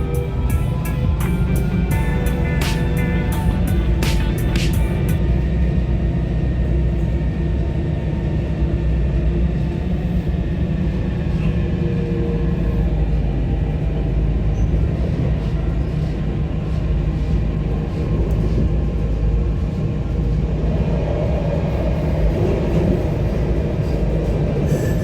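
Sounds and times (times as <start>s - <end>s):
tram rumbling on rails: 0.0s - 25.0s.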